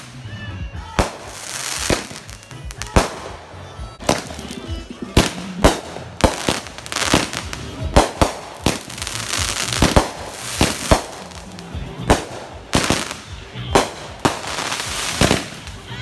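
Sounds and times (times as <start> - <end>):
fireworks crackling: 0.0 - 16.0
fireworks bangs: 0.9 - 16.0.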